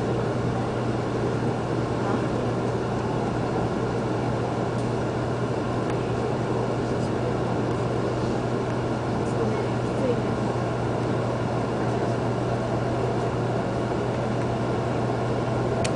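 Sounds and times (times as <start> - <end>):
constant low hum: 0.0 - 15.9
train running heard from inside: 0.0 - 15.9.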